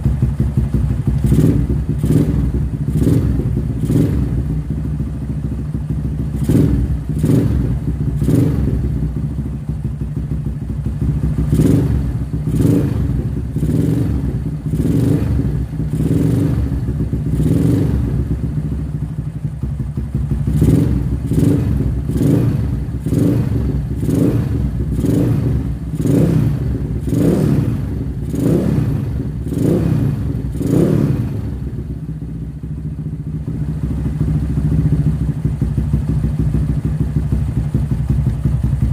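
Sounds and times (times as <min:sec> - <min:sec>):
motorcycle engine throttle blips: 0:00.0 - 0:38.9.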